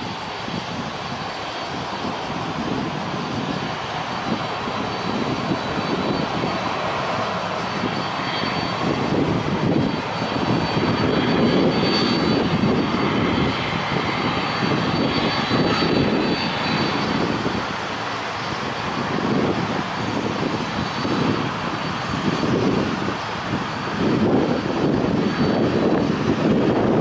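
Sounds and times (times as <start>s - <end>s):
jet engine rumble and whine: 0.0s - 27.0s.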